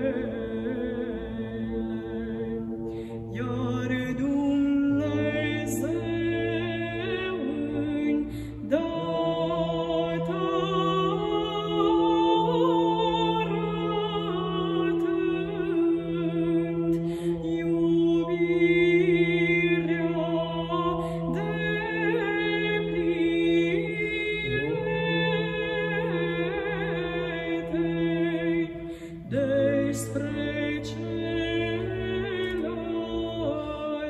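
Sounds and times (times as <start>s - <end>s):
held vocal drone: 0.0s - 34.0s
woman singing church chant: 0.0s - 34.0s.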